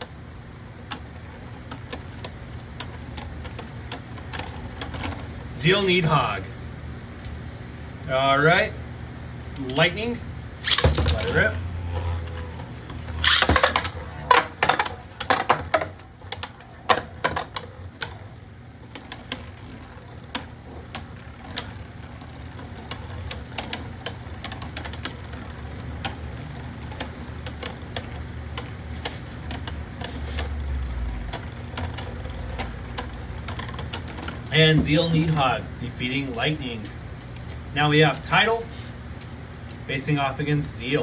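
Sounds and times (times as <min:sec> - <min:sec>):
spinning tops clacking: 0:00.0 - 0:06.2, 0:10.6 - 0:40.0
spinning tops whirring: 0:00.0 - 0:06.5, 0:09.6 - 0:41.0.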